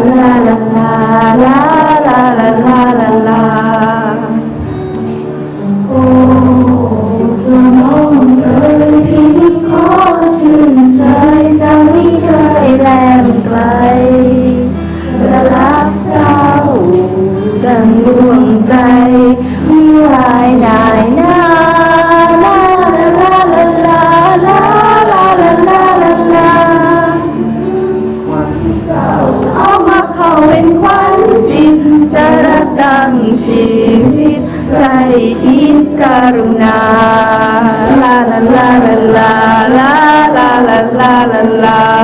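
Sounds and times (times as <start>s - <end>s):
high voice singing: 0.0s - 4.6s, 5.6s - 42.0s
held bass notes: 0.0s - 42.0s.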